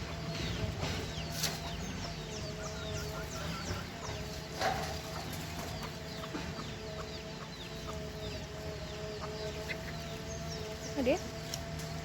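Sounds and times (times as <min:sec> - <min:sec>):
chickens peeping and clucking: 0:00.0 - 0:12.0.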